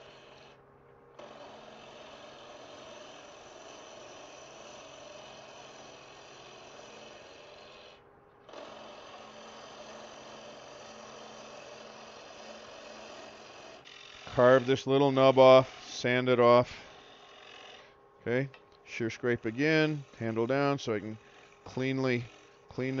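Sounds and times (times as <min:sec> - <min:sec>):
lathe tool cutting wood: 0:00.0 - 0:00.6, 0:01.2 - 0:23.0
faint motor hum: 0:00.0 - 0:23.0.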